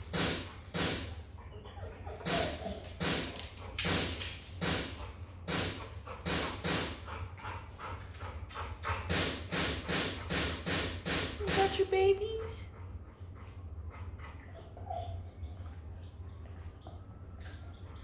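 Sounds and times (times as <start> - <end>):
dog panting: 0.3 - 18.0.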